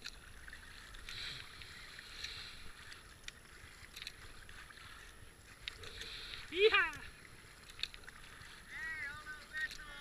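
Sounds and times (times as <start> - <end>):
kayak paddle swishing in water: 0.0 - 10.0
small splashes and drips: 0.0 - 10.0.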